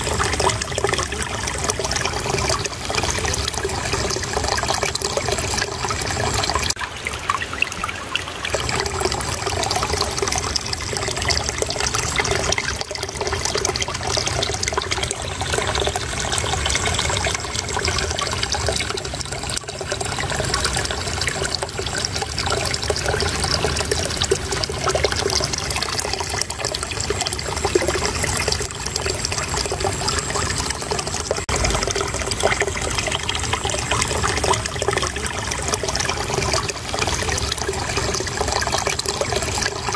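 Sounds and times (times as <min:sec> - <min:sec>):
shallow stream babbling: 0:00.0 - 0:39.9.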